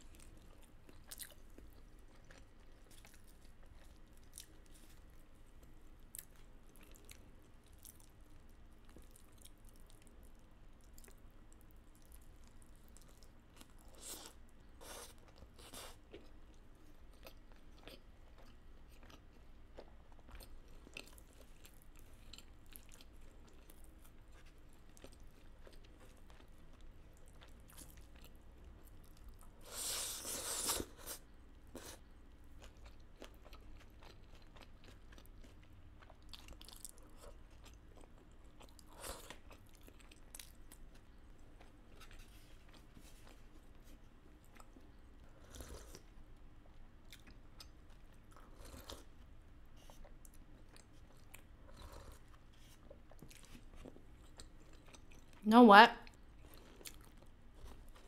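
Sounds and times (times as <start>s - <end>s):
chewing and biting food: 0.0s - 55.4s, 56.0s - 58.0s.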